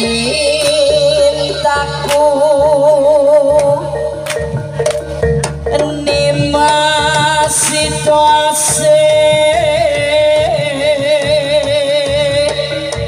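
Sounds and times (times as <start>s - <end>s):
wavering melody line: 0.0s - 13.0s
drum and gong strokes: 0.2s - 13.0s.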